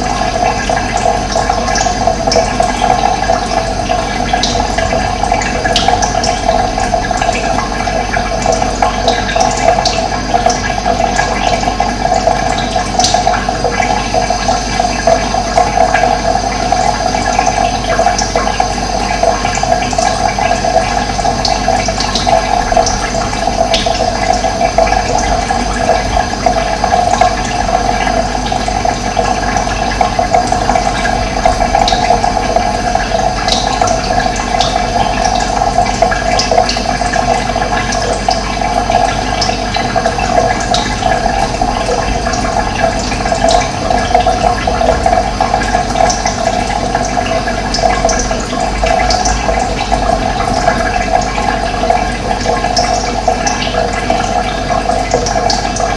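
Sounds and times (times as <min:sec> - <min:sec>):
running water: 0:00.0 - 0:55.9.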